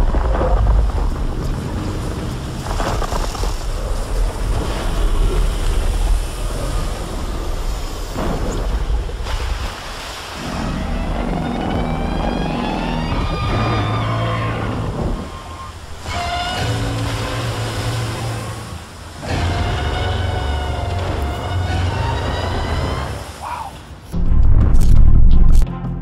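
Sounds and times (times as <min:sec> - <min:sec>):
rumble of open water: 0:00.0 - 0:25.7.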